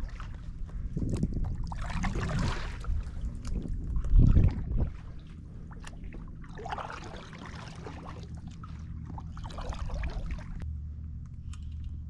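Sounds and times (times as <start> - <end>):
water trickling and splashing: 0.0 - 10.6
wind rumble on microphone: 0.0 - 12.0.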